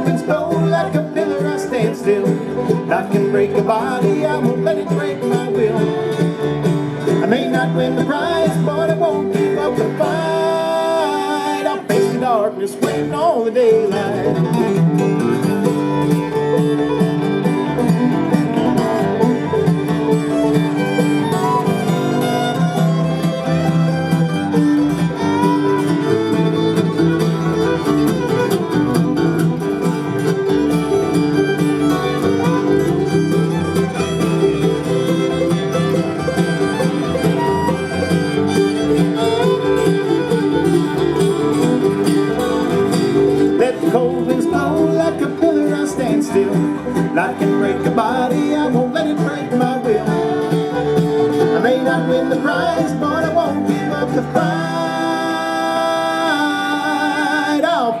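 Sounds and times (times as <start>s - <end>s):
fiddle leading: 0.0s - 57.9s
bluegrass band playing: 0.0s - 58.0s.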